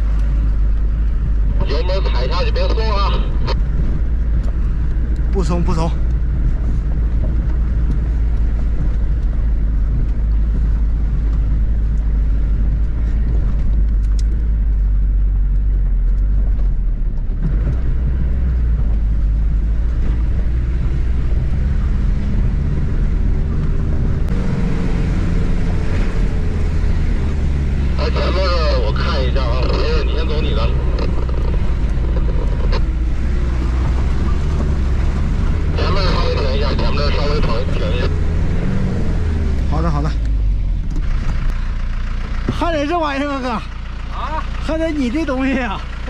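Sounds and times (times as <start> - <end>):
van engine droning under load: 0.0 - 46.0.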